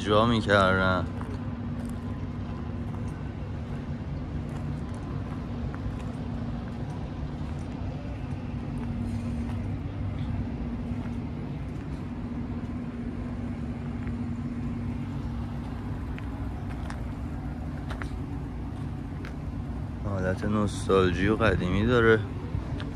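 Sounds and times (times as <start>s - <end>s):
city traffic rumble: 0.0s - 22.9s
constant low hum: 0.0s - 22.9s.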